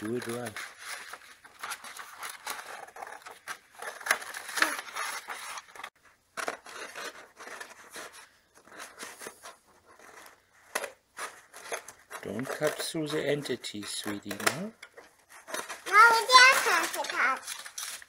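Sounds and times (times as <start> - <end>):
paper rustling: 0.0 - 18.0.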